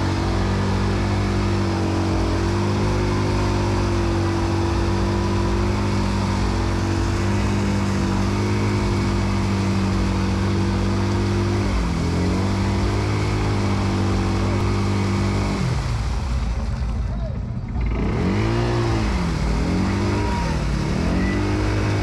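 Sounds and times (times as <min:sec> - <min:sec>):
atv engine revving: 0:00.0 - 0:22.0.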